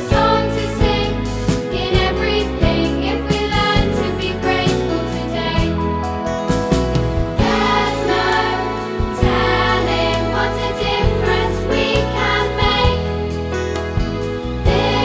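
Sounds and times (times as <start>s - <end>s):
song with singing voices: 0.0s - 6.1s, 7.3s - 13.6s, 14.6s - 15.0s.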